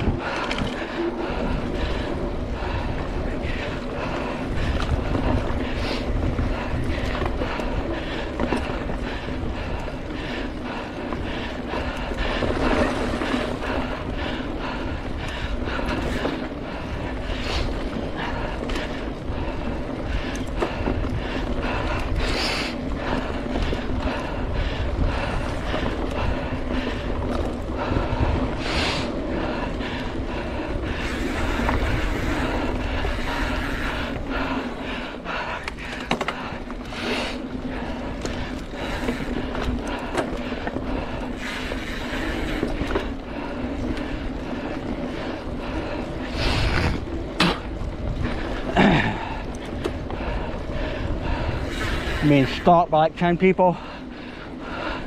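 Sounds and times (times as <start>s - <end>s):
bike rattles and clicks: 0.0s - 55.0s
bike tyre rumble: 0.0s - 55.0s
wind buffeting microphone: 0.0s - 55.0s.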